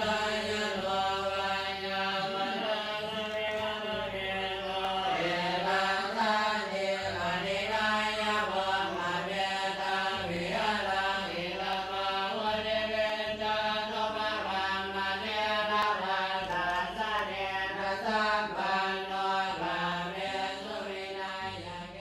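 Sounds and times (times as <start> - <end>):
monks chanting: 0.0 - 22.0.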